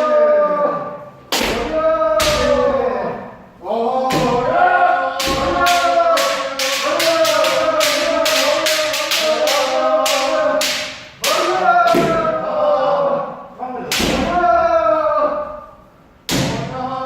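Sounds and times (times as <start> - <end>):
group shouting together: 0.0 - 15.7.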